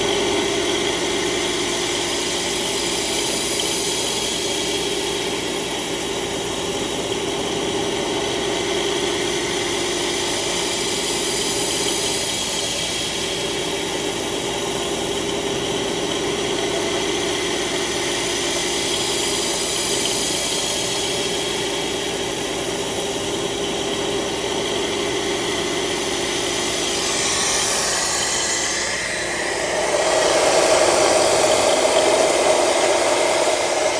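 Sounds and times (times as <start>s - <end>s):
end mill cutting hiss: 0.0s - 33.9s
milling machine spindle running: 0.0s - 33.9s.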